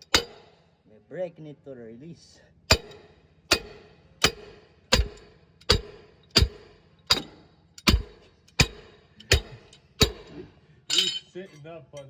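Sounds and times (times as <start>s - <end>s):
hammer striking metal: 0.0s - 0.6s, 2.7s - 12.0s.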